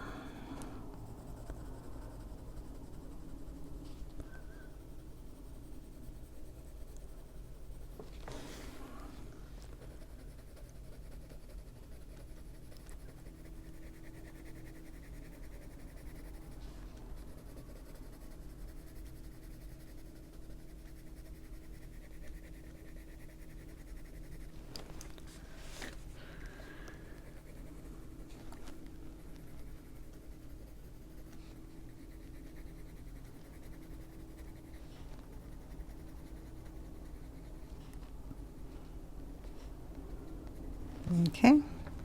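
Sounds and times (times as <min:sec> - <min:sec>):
low steady hum: 0:00.0 - 0:42.0
colored pencil scratching on paper: 0:00.2 - 0:41.7.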